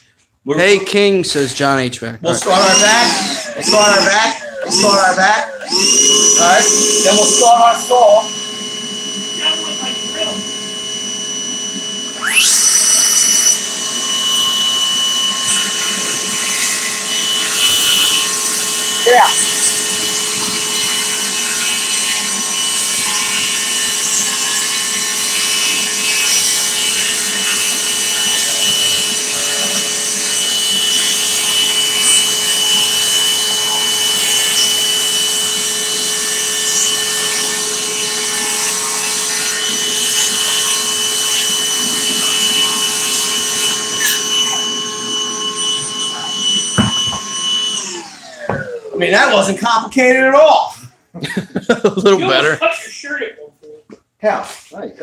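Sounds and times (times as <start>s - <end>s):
dust extractor running: 2.2s - 49.8s
circular saw cutting wood: 2.2s - 50.1s.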